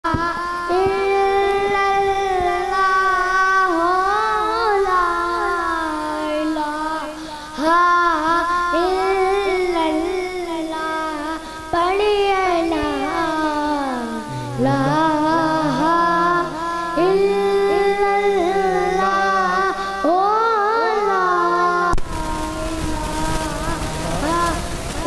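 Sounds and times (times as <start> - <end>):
child singing a hymn: 0.0 - 25.0.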